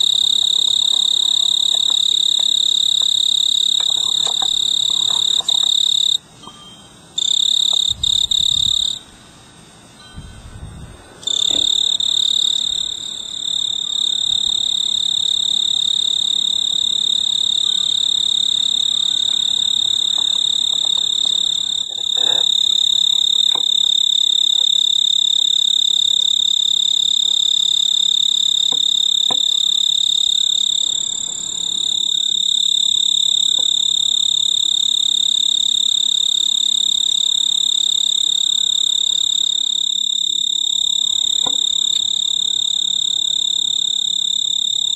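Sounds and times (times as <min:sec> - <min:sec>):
cricket trilling: 0:00.0 - 0:44.9.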